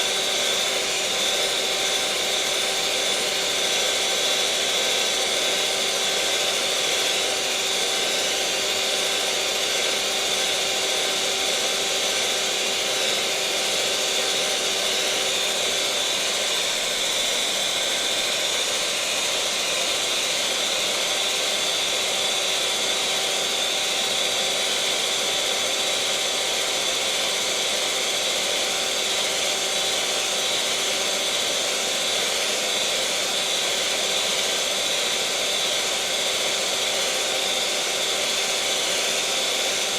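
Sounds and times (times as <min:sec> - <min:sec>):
electric mixer motor whirring: 0:00.0 - 0:39.9.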